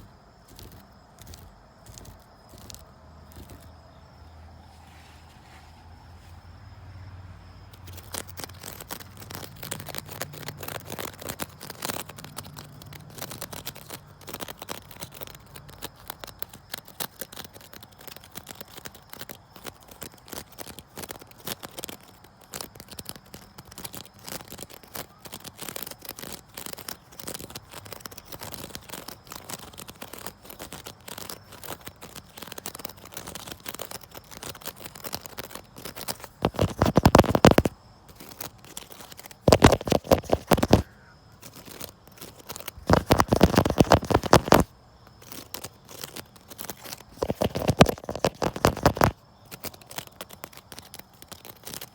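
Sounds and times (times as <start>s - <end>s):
scratching on wicker chair: 0.0s - 3.9s, 4.6s - 6.4s, 7.7s - 51.9s.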